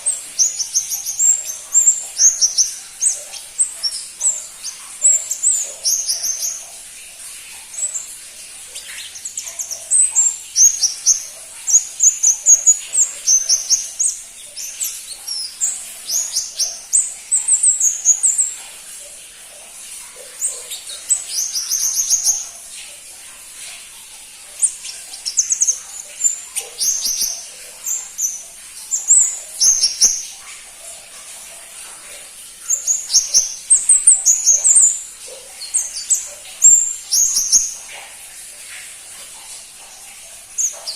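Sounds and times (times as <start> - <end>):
high thin bird chirping: 0.0 - 40.9.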